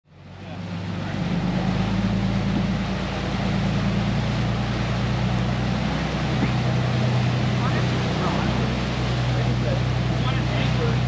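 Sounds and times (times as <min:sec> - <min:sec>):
boat engine droning: 0:00.0 - 0:11.0
water noise: 0:00.0 - 0:11.0.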